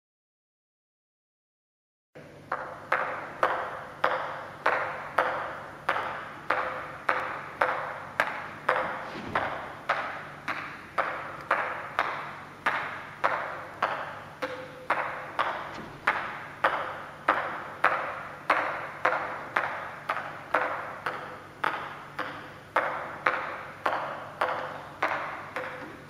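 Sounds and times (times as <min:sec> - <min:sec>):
ping pong ball bouncing on paddle: 0:02.5 - 0:26.0.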